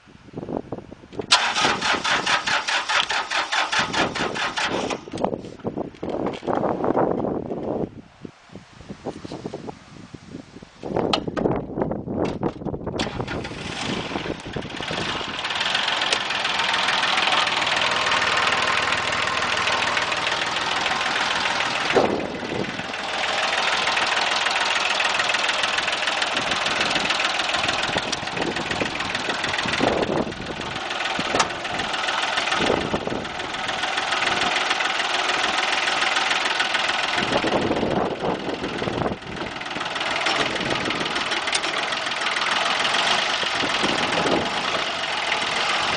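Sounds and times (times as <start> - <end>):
tractor diesel engine clattering: 1.2 - 6.5, 12.2 - 45.9.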